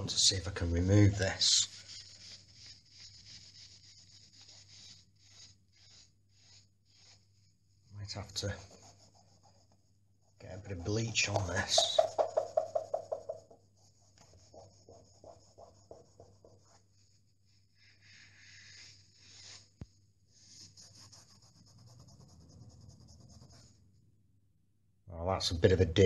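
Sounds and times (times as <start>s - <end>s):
cloth scrubbing on painted wall: 0.0s - 23.8s.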